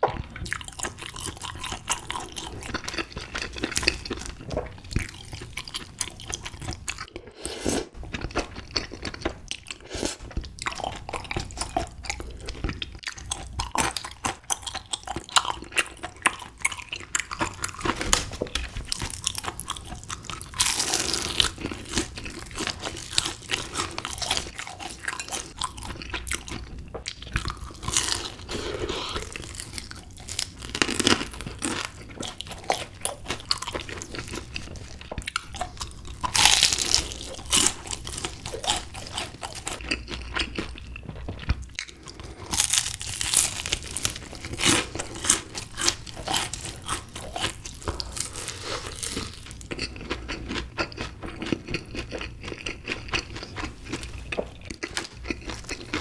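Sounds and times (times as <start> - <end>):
crunchy fried chicken chewing: 0.0 - 56.0.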